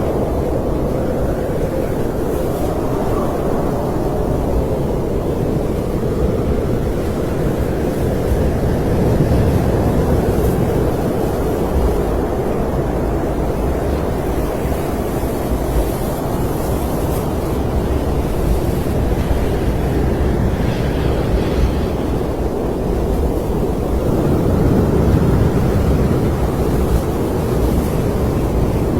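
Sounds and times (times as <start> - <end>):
snowstorm wind rushing: 0.0 - 28.9.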